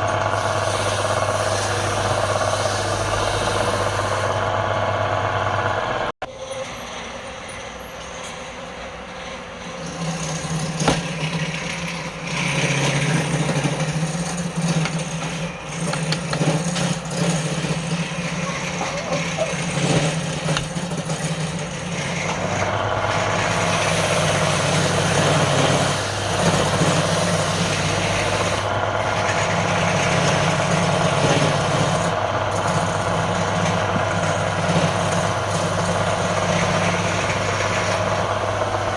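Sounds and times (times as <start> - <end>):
wood lathe motor hum: 0.0 - 38.9.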